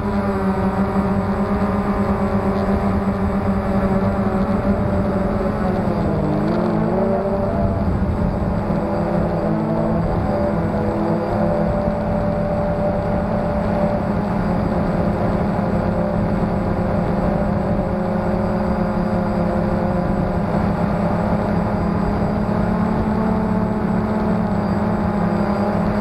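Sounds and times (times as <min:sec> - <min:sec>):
drone propellers whirring: 0:00.0 - 0:26.0.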